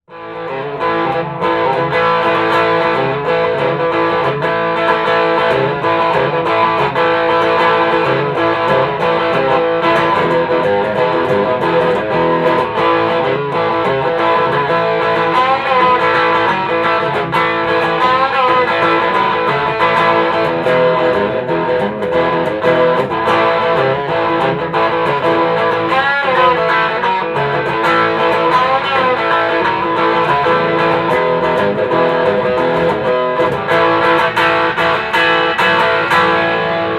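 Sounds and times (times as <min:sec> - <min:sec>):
overdriven electric guitar: 0:00.0 - 0:36.9.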